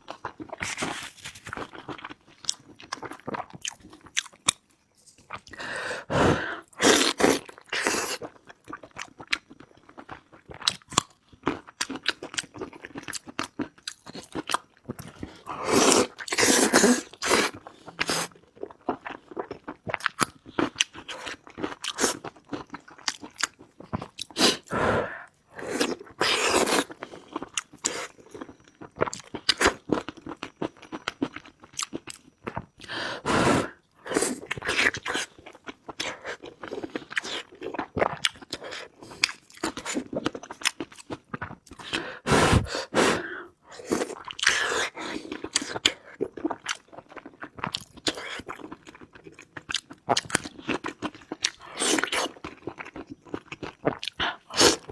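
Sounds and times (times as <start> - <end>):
chewing and crunching food: 0.0 - 54.9.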